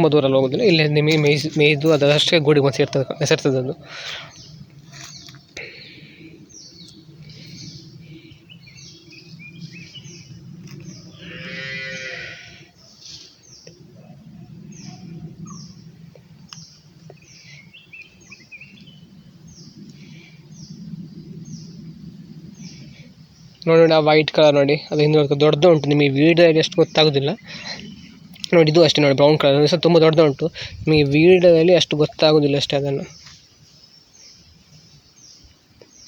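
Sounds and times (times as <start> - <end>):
bird chirping: 0.0 - 36.0
low background noise: 0.0 - 36.0.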